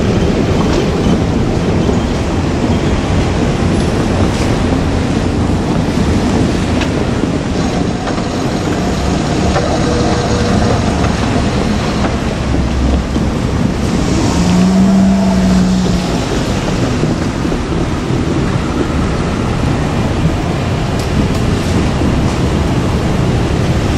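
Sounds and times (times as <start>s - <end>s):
diesel engine rumble: 0.0s - 23.9s
train wheels on rails: 0.0s - 23.9s.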